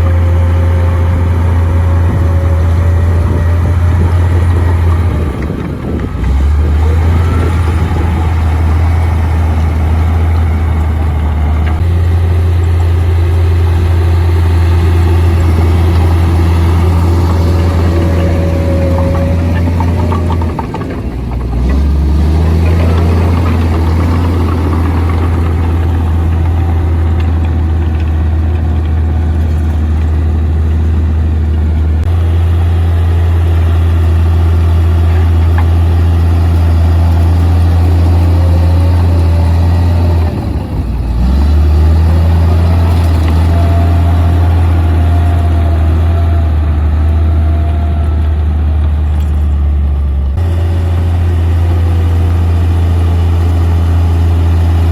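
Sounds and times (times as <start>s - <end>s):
bulldozer diesel engine drone: 0.0s - 54.9s.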